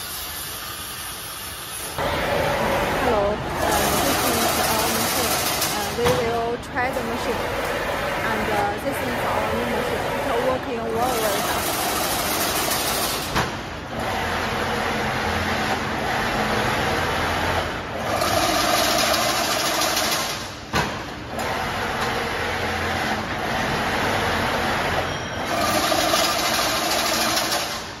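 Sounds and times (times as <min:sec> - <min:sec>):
weaving machine whirring and clatter: 0:00.0 - 0:28.0.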